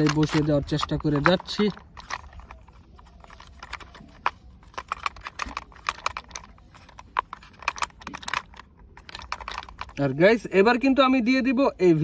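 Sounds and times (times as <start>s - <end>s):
plastic toy parts clicking: 0.0s - 10.2s.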